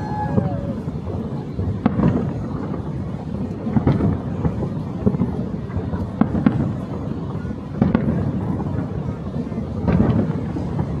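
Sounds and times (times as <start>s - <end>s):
fireworks sharp bangs: 0.0s - 11.0s
low rumble of booms: 0.0s - 11.0s.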